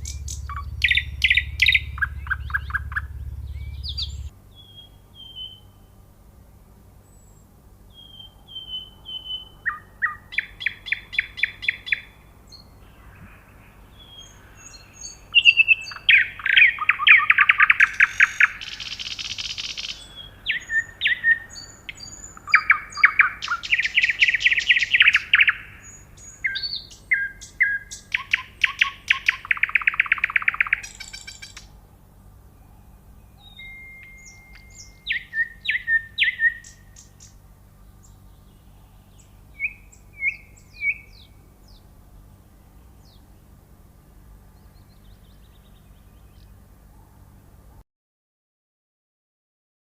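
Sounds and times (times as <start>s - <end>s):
nightingale singing: 0.0s - 6.0s, 7.0s - 31.8s, 32.4s - 43.5s.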